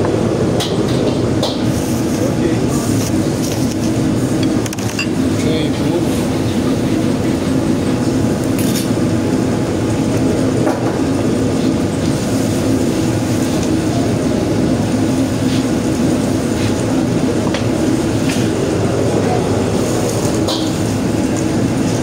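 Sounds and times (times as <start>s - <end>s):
ventilation and machinery roar: 0.0s - 22.0s.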